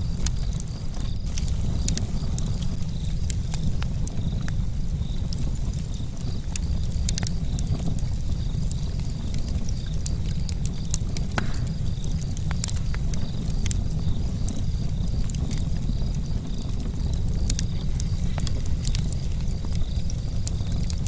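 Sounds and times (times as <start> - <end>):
campfire crackling: 0.0 - 21.0
sharp pops and ticks: 0.0 - 21.0.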